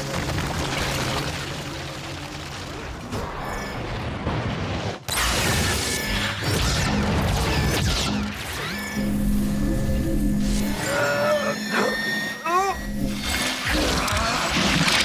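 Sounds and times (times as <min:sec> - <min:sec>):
film background score: 0:00.0 - 0:15.0.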